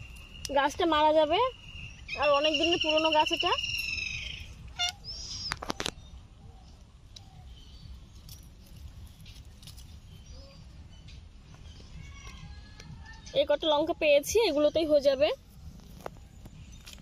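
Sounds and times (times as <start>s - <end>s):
bird chirping: 0.0s - 17.0s
distant bird calls: 0.0s - 17.0s
steady low rumble: 0.0s - 17.0s.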